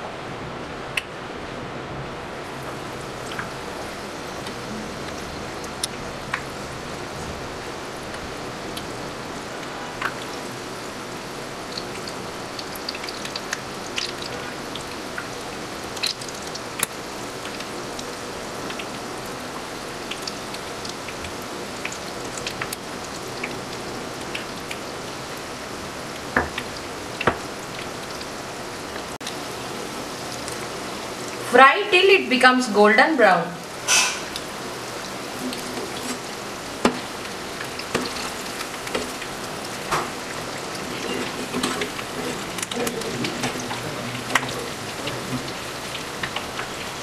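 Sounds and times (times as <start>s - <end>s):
hot oil sizzling: 2.3s - 47.0s
oil crackles and pops: 2.4s - 31.5s, 33.7s - 47.0s.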